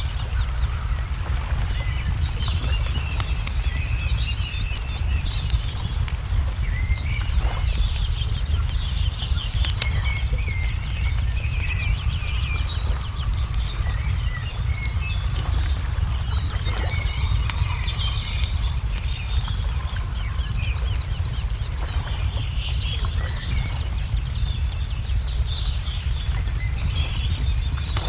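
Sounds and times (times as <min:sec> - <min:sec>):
birds chirping: 0:00.0 - 0:28.0
steady low rumble: 0:00.0 - 0:28.0
wood fire crackling: 0:00.0 - 0:28.0.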